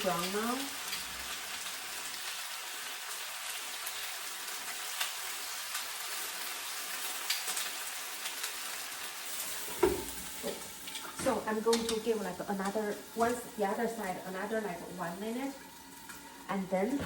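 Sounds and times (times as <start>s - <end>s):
chicken frying in oil: 0.0s - 15.6s.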